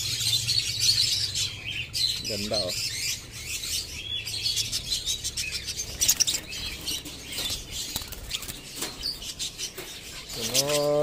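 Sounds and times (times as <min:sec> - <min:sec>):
lovebirds chirping and chattering: 0:00.0 - 0:11.0.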